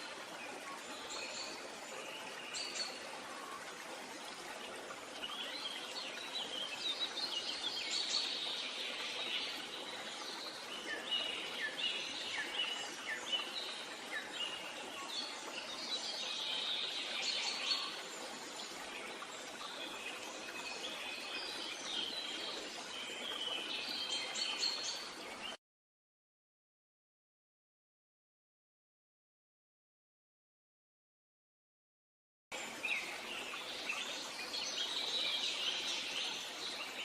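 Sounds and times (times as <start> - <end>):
steady outdoor hiss: 0.0 - 25.5, 32.6 - 37.0.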